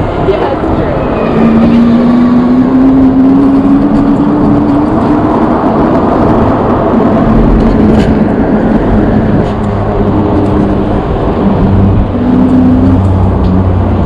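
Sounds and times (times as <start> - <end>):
rising whine: 0.0 - 14.0
wind rushing over microphone: 0.0 - 14.0.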